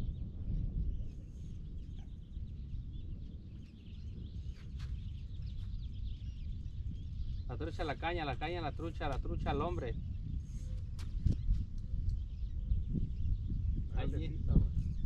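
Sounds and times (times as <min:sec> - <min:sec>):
small birds chirping faintly: 0:00.0 - 0:15.0
wind rumbling on microphone: 0:00.0 - 0:15.0.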